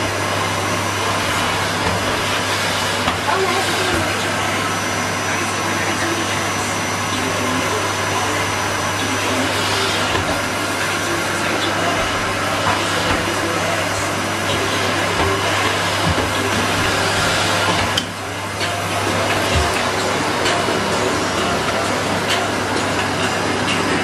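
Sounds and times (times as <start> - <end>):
vacuum cleaner humming: 0.0 - 24.0.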